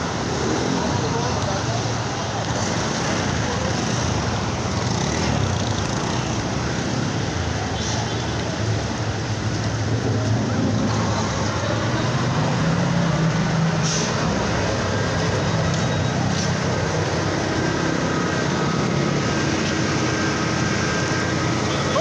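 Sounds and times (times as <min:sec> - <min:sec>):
vehicle engines running low: 0:00.0 - 0:22.0.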